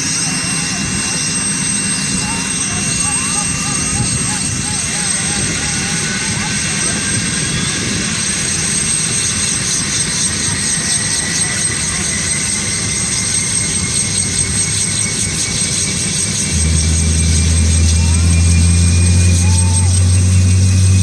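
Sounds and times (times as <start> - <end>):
helicopter rotors: 0.0 - 21.0
high-pitched turbine whine: 0.0 - 21.0.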